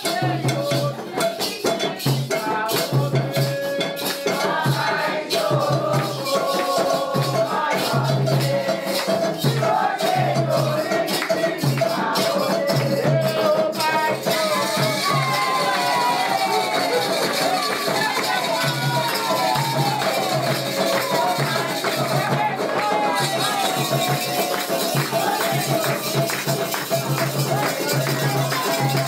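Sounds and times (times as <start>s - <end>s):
hand drum beats: 0.0s - 29.0s
people singing: 0.0s - 29.0s
shaker rattling: 5.0s - 29.0s.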